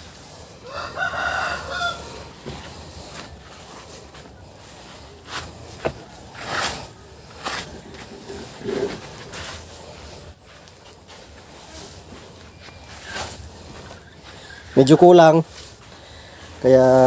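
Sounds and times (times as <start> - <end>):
chickens clucking: 0.0 - 15.4
shuffling and scratching: 0.0 - 17.0.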